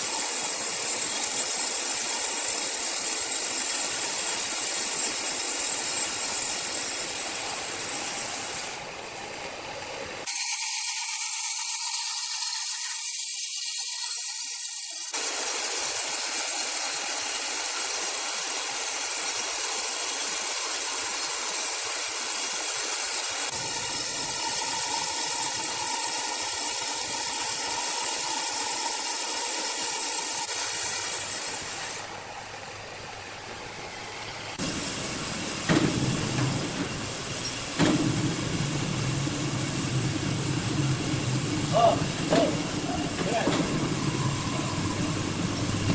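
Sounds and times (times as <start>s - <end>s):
sawmill machinery hissing: 0.0s - 45.9s.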